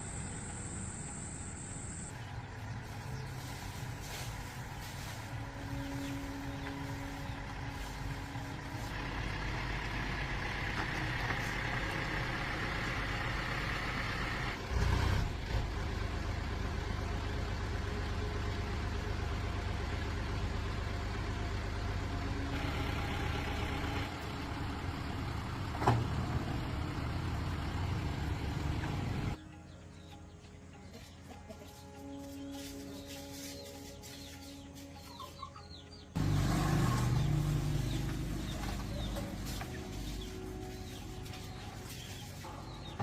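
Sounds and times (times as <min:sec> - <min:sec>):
truck engine running: 0:00.0 - 0:29.4, 0:36.1 - 0:43.0.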